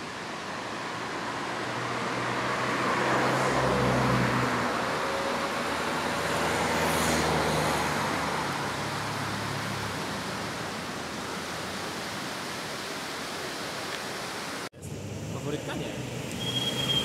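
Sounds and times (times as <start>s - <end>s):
rushing road noise: 0.0s - 17.0s.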